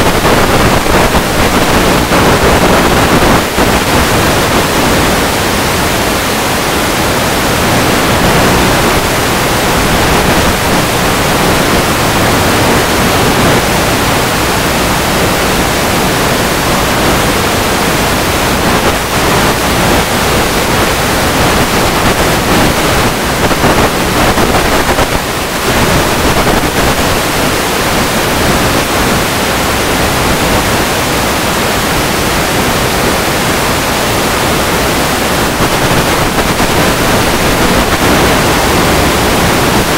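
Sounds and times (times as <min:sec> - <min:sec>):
loud steady hiss: 0:00.0 - 0:39.9.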